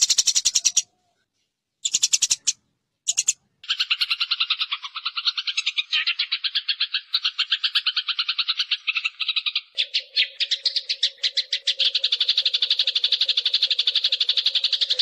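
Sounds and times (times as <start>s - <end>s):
sparrows chirping harshly: 0.0s - 1.2s, 1.8s - 15.0s.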